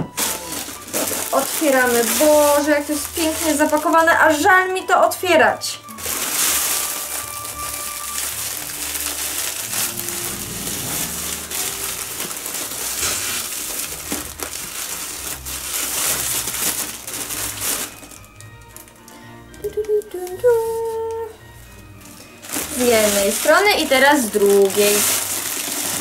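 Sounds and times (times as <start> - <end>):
cellophane crinkling: 0.0 - 26.0.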